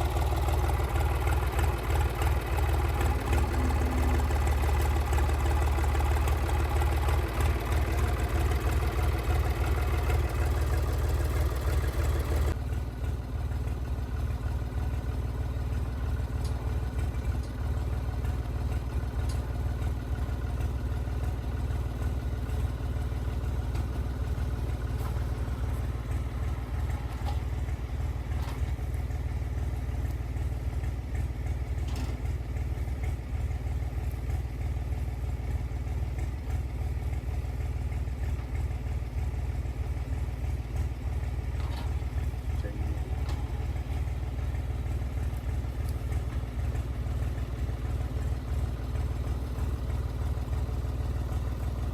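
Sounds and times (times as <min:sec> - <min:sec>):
small gasoline engine running: 0:00.0 - 0:51.9.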